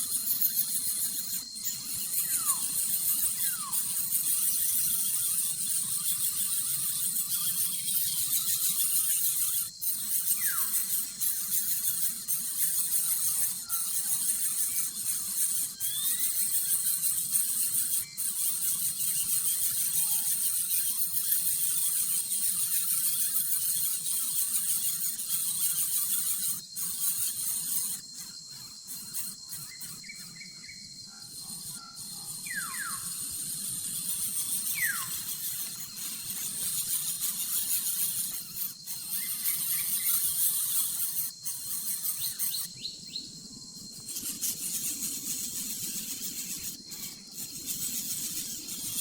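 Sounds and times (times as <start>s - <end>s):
steady high-pitched hiss: 0.0s - 49.0s.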